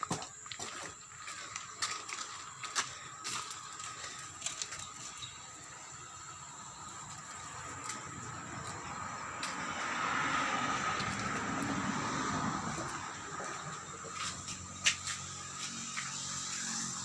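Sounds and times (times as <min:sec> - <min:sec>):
footsteps on gravel: 0:00.0 - 0:05.4, 0:07.0 - 0:16.8
faint high outdoor hum: 0:00.0 - 0:17.0.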